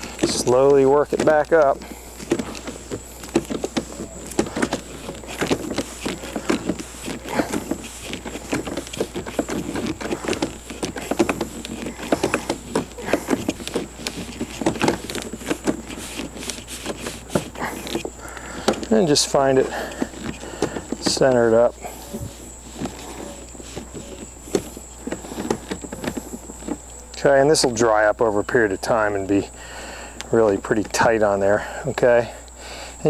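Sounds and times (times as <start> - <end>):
soaped pad squeaking on tube: 0.0 - 27.3.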